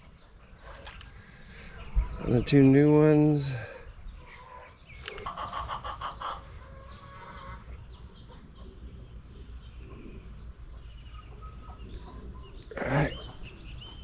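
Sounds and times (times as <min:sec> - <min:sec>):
birds calling: 0:00.0 - 0:14.0
low steady background noise: 0:00.0 - 0:14.0.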